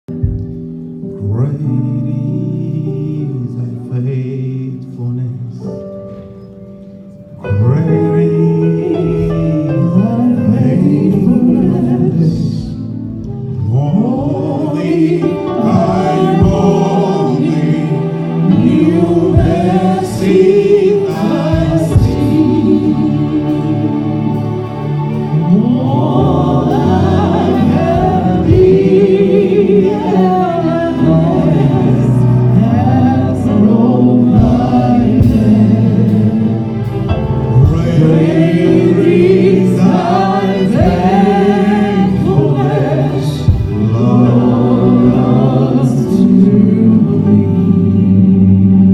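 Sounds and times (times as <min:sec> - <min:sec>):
choir singing gospel: 0:00.1 - 0:06.0, 0:07.3 - 0:48.9
instrumental backing: 0:00.1 - 0:48.9.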